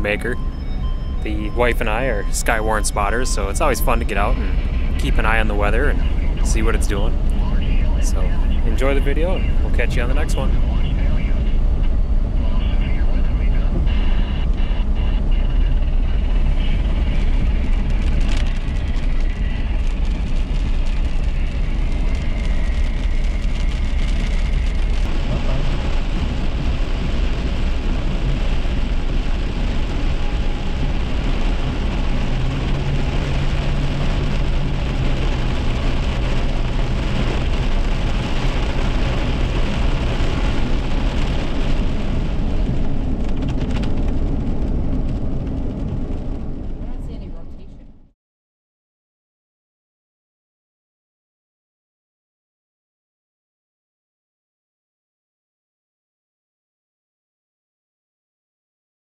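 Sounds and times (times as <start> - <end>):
tyre and road noise on wet road: 0.0 - 47.8
heavy low rumble: 0.0 - 48.2.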